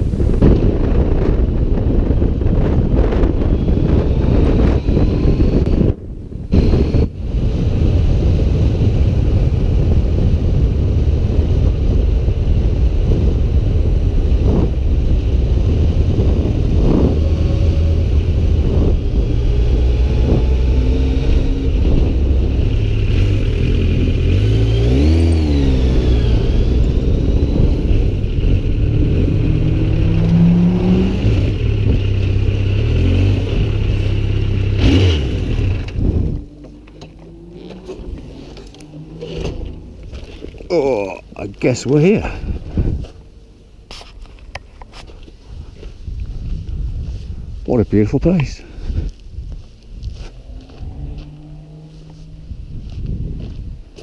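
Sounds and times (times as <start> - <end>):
wind noise on microphone: 0.0 - 54.0
motorcycle engine: 1.2 - 41.4, 49.5 - 53.0.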